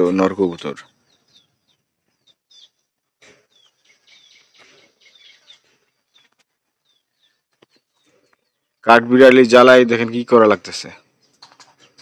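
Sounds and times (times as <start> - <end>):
faint small birds chirping: 0.0 - 12.0.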